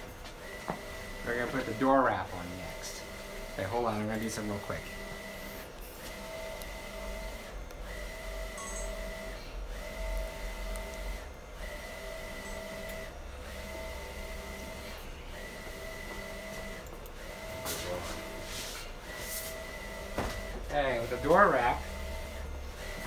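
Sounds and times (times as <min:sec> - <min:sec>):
printer carriage whirring: 0:00.0 - 0:23.0.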